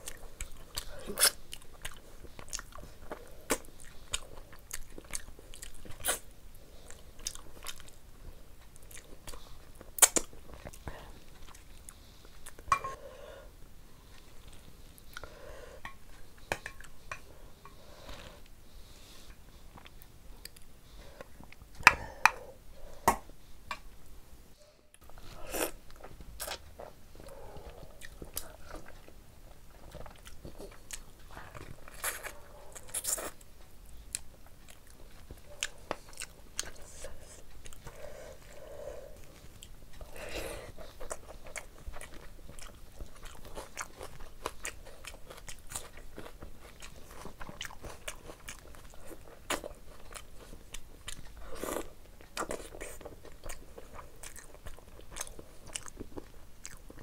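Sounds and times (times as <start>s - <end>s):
person chewing food: 0.0s - 23.9s, 24.9s - 57.0s.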